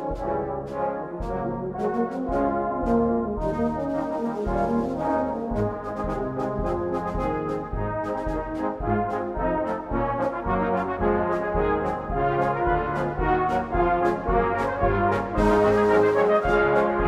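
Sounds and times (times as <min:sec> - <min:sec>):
brass band playing hymn: 0:00.0 - 0:17.0.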